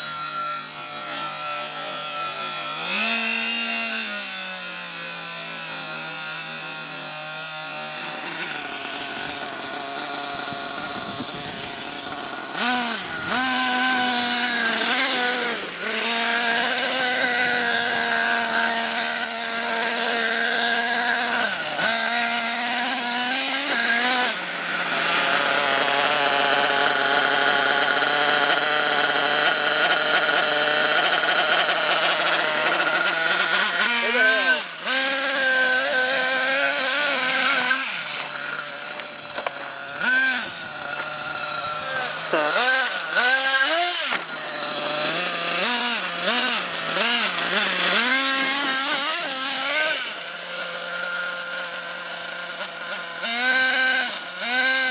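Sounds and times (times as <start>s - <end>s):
rc truck engine buzzing: 0.0s - 54.9s.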